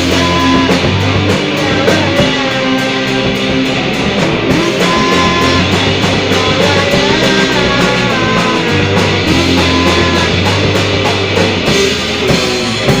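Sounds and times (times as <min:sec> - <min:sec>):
electric guitar with bent notes: 0:00.0 - 0:13.0
rock band music: 0:00.0 - 0:13.0.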